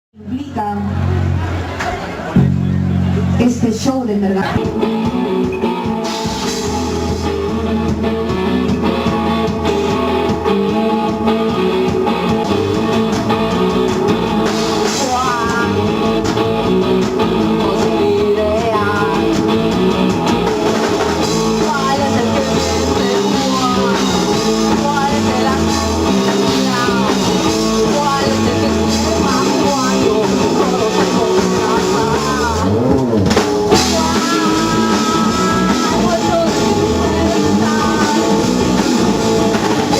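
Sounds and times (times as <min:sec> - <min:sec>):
rock band playing: 0:00.3 - 0:39.9
person singing: 0:04.4 - 0:33.0, 0:33.7 - 0:39.9.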